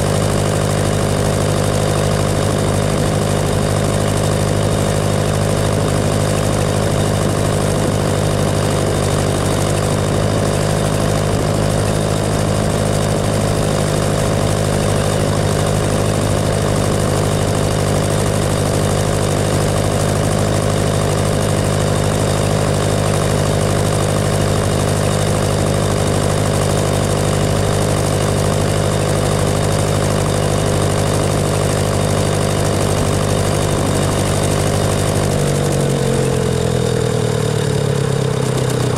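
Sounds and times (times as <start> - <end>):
tractor engine droning: 0.0 - 38.9.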